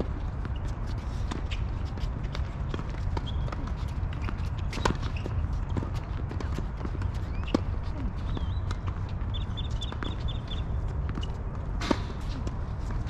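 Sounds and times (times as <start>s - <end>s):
tennis ball bouncing: 0.0s - 13.0s.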